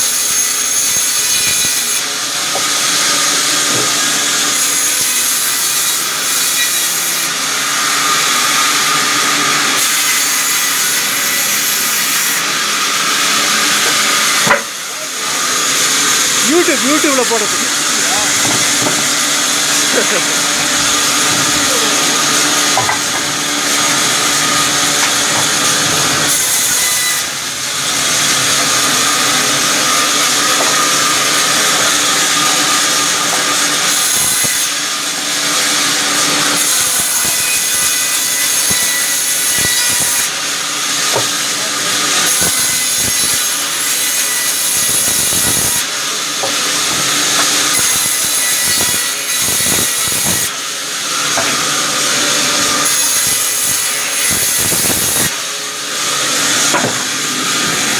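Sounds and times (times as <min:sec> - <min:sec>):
saw cutting through timber: 0:00.0 - 0:57.9.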